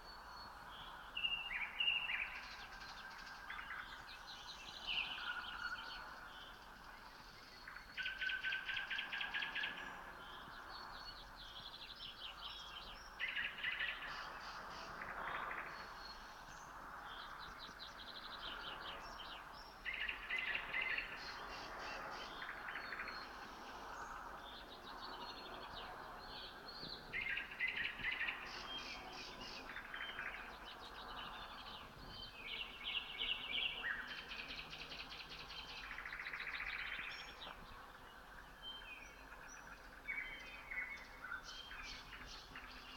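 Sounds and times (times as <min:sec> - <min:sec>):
chorus of songbirds: 0:00.0 - 0:42.9.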